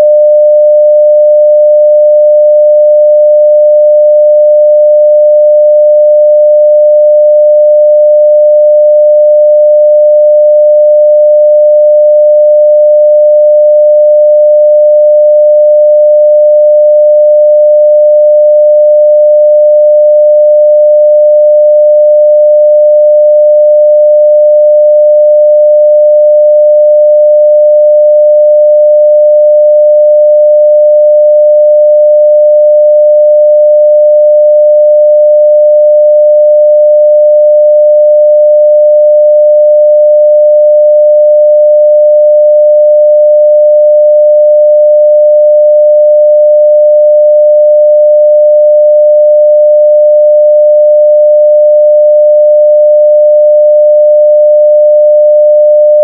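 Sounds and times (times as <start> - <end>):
sine wave test tone: 0.0 - 56.0.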